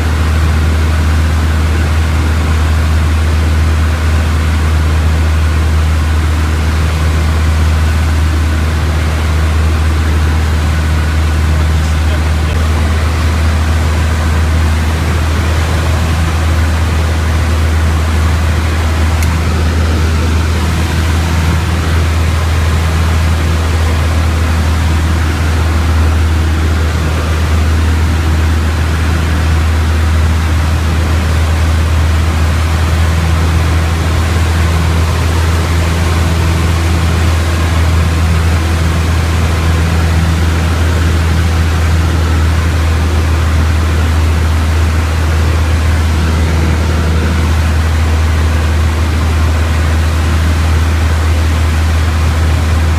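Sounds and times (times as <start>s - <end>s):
aircraft engine and propeller droning: 0.0s - 52.9s.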